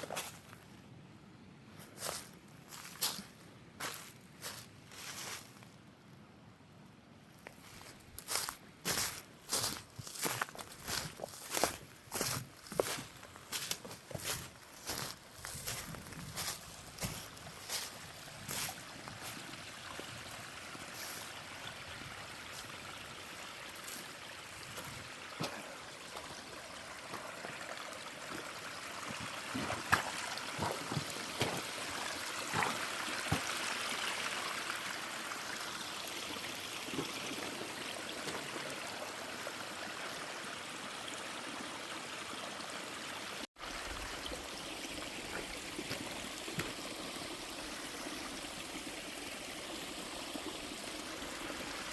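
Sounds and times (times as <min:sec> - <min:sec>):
stream water running: 0:07.4 - 0:51.9.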